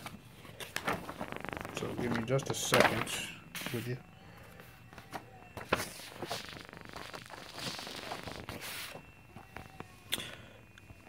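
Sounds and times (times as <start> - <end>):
paper rustling and crackling: 0.0 - 4.0, 4.6 - 9.9.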